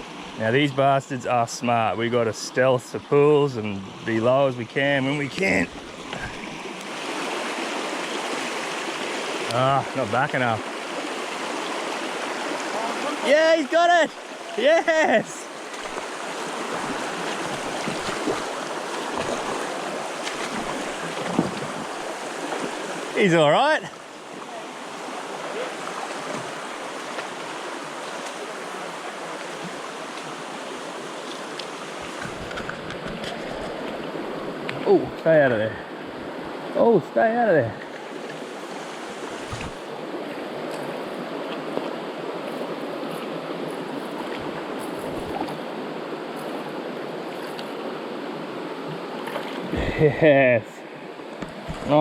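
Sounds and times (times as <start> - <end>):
creek water rushing: 0.0 - 52.0.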